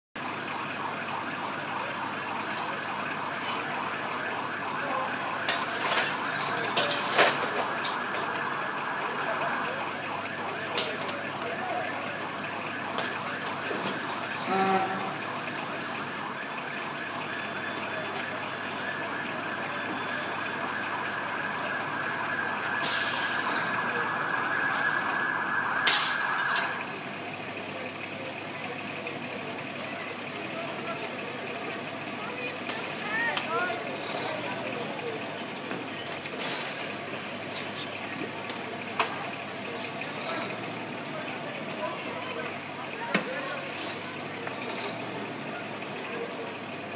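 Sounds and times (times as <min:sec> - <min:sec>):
fire engine mechanical hum: 0:00.2 - 0:46.9.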